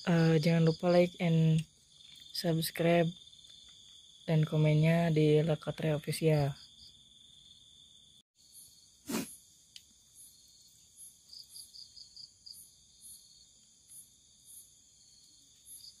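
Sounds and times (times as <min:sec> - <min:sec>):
insects trilling: 0:00.0 - 0:04.8, 0:05.8 - 0:16.0
insects chirping: 0:00.0 - 0:16.0.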